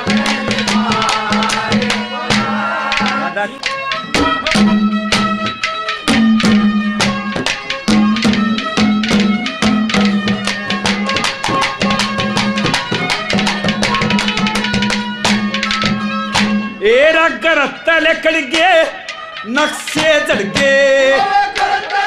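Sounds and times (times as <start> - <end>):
hand drum beating: 0.0 - 16.8, 18.2 - 21.9.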